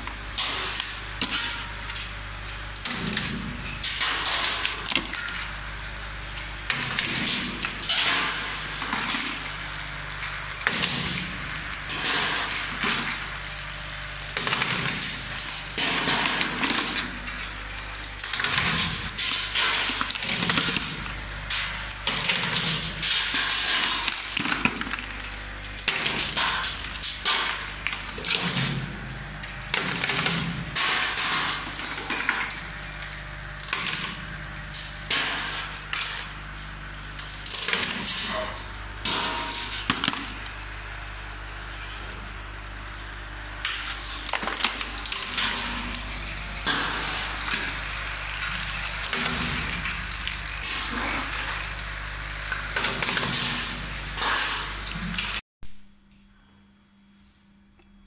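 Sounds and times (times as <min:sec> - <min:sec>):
motor hum: 0:00.0 - 0:55.4.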